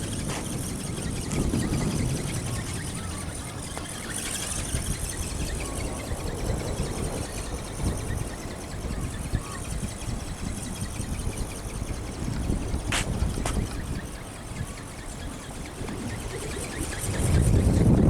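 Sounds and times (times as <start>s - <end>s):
high whine of motor: 0.0s - 18.0s
wind buffeting microphone: 0.0s - 18.0s.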